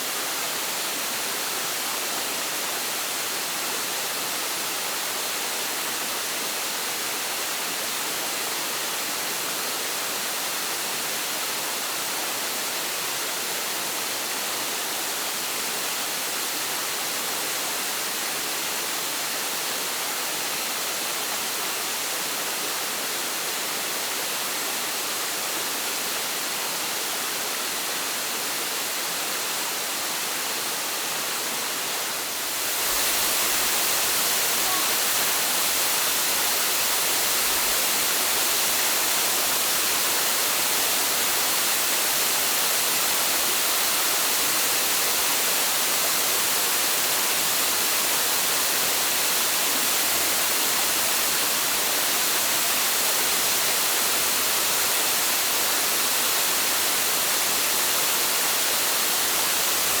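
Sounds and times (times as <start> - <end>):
waterfall roar: 0.0 - 60.0.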